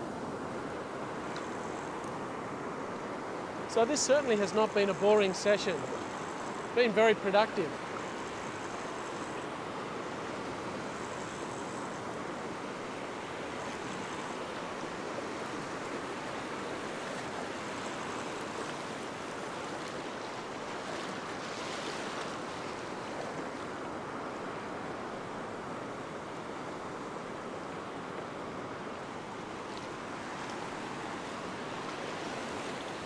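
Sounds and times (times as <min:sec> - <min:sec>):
small waves breaking in shallows: 0:00.0 - 0:33.0.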